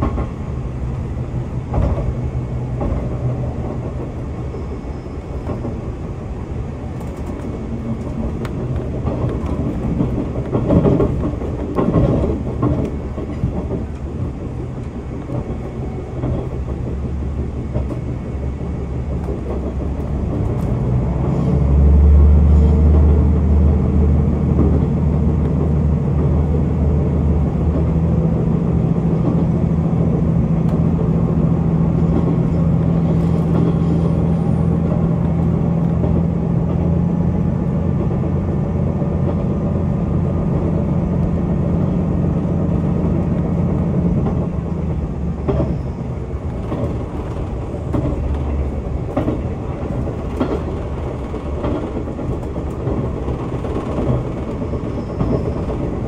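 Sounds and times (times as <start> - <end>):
train rolling rumble: 0.0 - 56.0.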